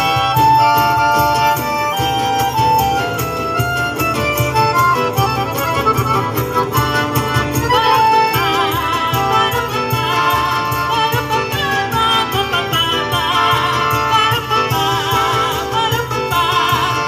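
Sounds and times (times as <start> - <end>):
accordion: 0.0 - 17.0
acoustic guitar: 0.0 - 17.0
cajon beat: 0.0 - 17.0.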